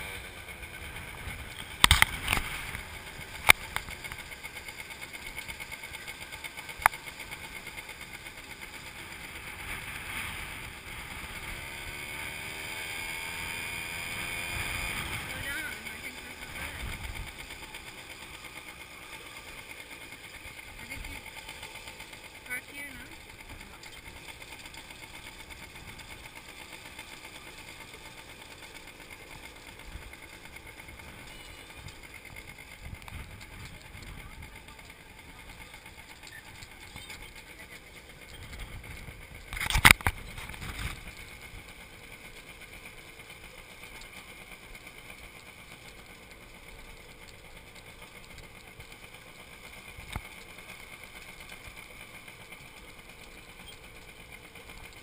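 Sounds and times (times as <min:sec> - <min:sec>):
small motorbike engine running: 0:00.0 - 0:55.0.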